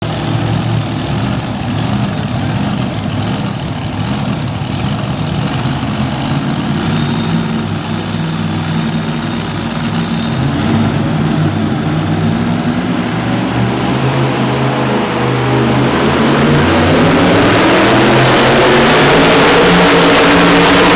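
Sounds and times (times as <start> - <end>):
truck engine idling: 0.0 - 20.9.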